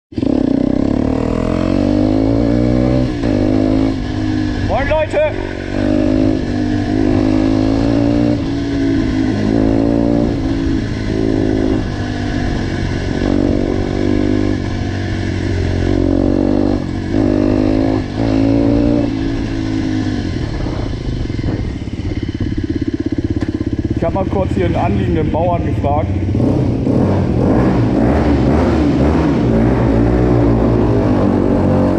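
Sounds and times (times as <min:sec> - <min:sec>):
motorcycle engine revving: 0:00.1 - 0:31.9.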